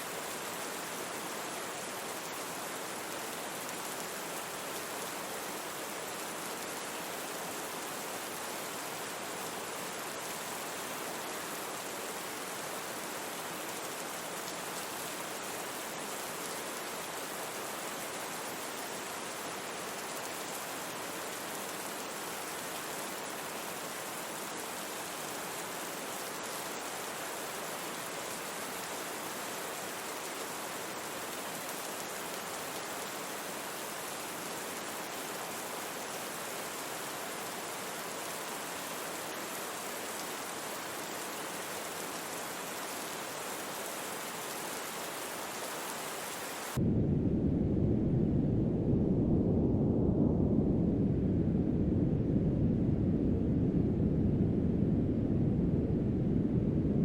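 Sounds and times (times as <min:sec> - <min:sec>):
rain hiss: 0:00.0 - 0:46.8
brown noise rumbling hiss: 0:00.0 - 0:55.4.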